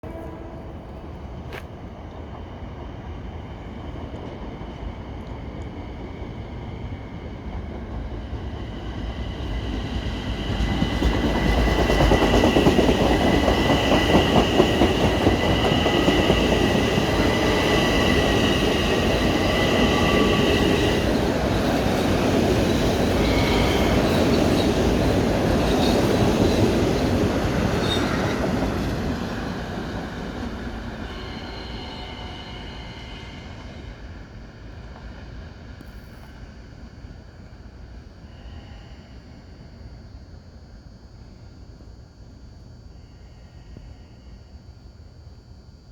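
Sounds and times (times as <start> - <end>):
electric train passing: 0.1 - 41.8.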